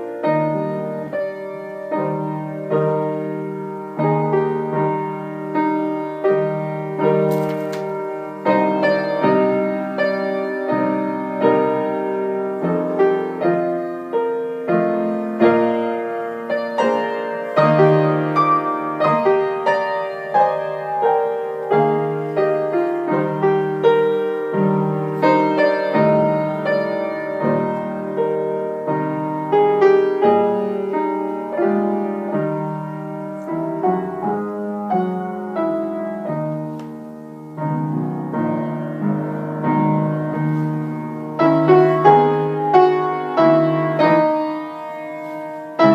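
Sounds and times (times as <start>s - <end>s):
solo piano playing: 0.0s - 45.9s.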